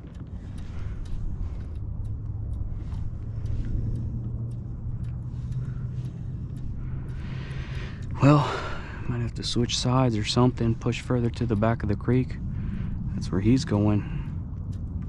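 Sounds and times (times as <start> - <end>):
faint light clicks: 0.0 - 15.0
low motor hum: 0.0 - 15.0.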